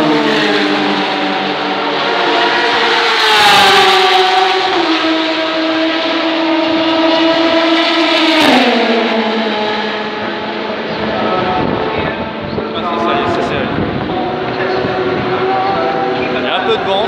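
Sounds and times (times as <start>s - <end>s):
racing car engines passing: 0.0s - 17.0s.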